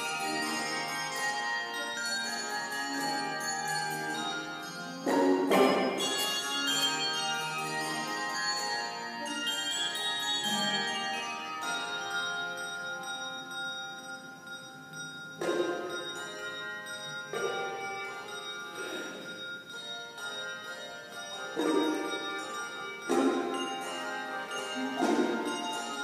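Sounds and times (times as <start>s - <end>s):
handbells ringing chords: 0.0s - 26.0s.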